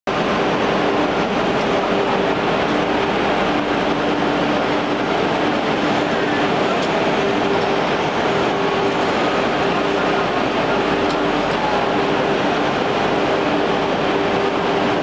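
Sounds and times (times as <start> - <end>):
grinding machine hum: 0.1 - 15.0.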